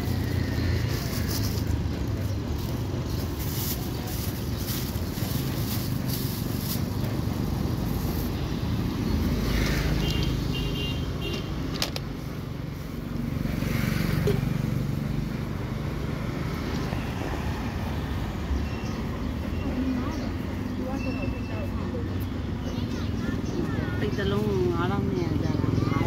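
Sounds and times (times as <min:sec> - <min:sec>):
street traffic rumble: 0:00.0 - 0:26.0
vehicles passing: 0:00.0 - 0:26.0.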